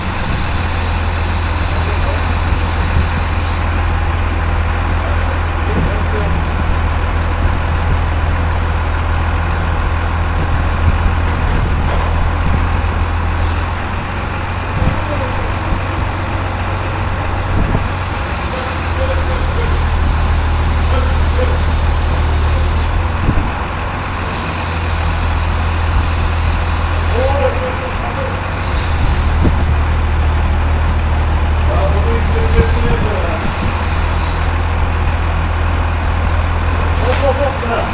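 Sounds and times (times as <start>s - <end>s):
washing machine humming: 0.0s - 37.9s.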